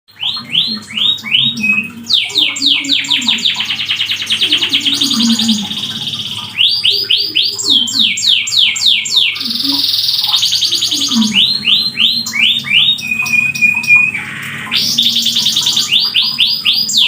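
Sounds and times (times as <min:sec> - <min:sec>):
canary singing: 0:00.1 - 0:17.0.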